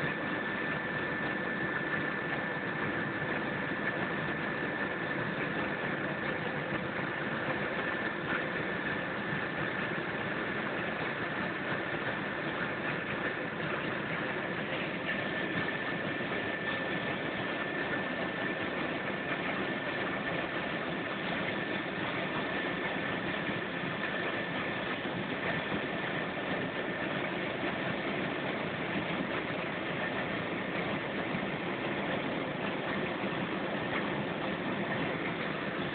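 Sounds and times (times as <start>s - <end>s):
helicopter engine and rotor noise: 0.0s - 35.9s.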